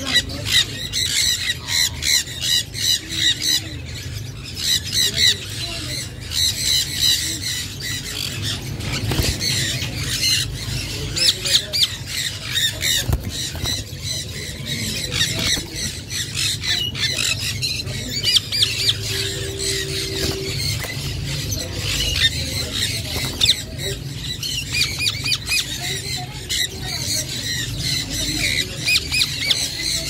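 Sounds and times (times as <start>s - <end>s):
steady low hum: 0.0s - 29.9s
parakeets squawking and screeching: 0.0s - 30.0s.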